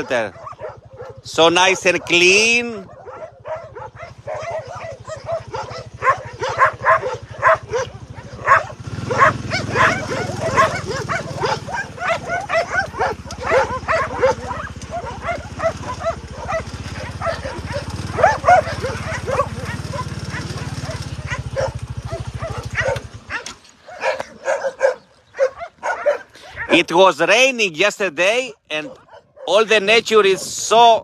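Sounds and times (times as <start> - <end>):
dogs barking: 0.0 - 27.5, 28.2 - 31.0.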